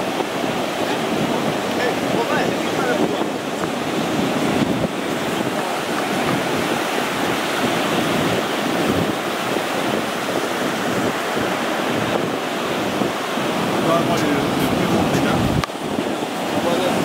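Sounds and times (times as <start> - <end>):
surf breaking on a beach: 0.0 - 17.0
wind buffeting the microphone: 0.0 - 17.0.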